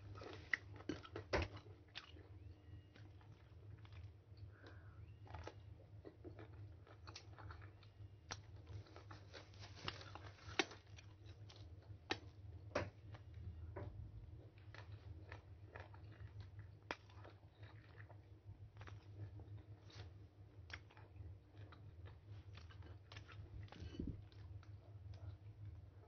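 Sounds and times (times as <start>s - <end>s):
chewing and biting mango: 0.0s - 13.6s, 14.2s - 26.0s
steady low hum: 0.0s - 26.0s.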